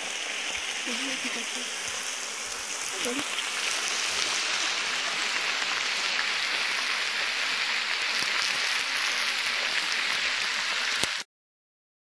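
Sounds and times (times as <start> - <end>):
meat and onions sizzling: 0.0 - 11.3.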